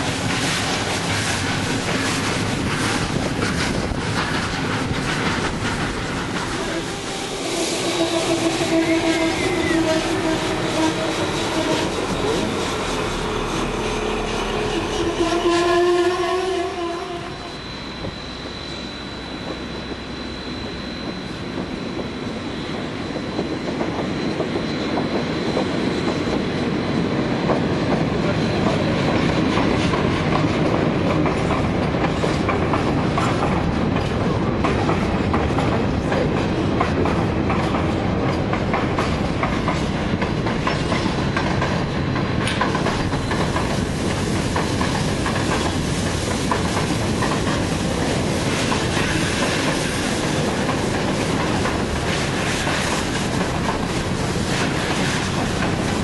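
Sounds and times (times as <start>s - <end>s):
train wheels clattering on rails: 0.0s - 16.0s, 17.5s - 56.0s.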